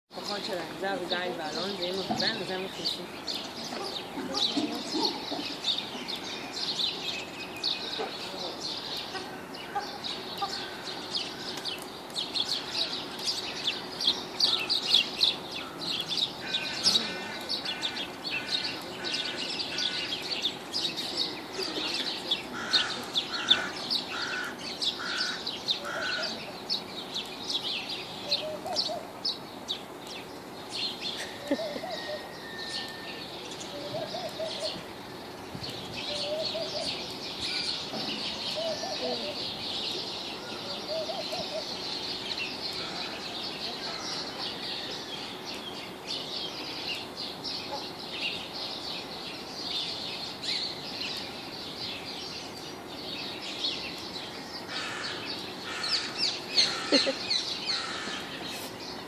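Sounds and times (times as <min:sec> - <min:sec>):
repeated lower bird calls: 0:00.2 - 0:59.0
small birds chirping: 0:00.2 - 0:59.0.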